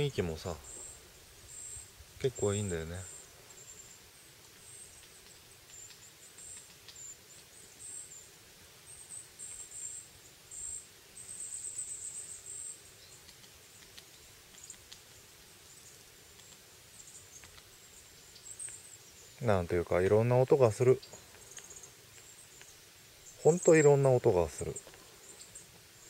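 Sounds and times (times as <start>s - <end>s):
high songbird chirps and trills: 0.0s - 26.0s.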